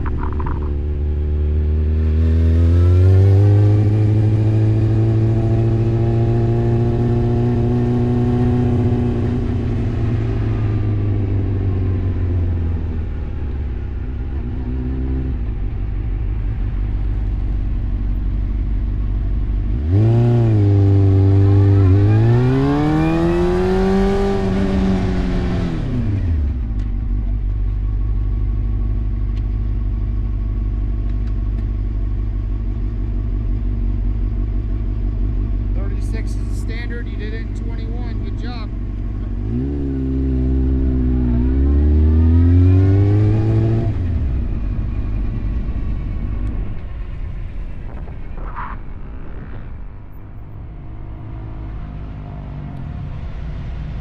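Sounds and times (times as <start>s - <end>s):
motorcycle engine revving: 0.0s - 28.2s, 32.1s - 53.0s.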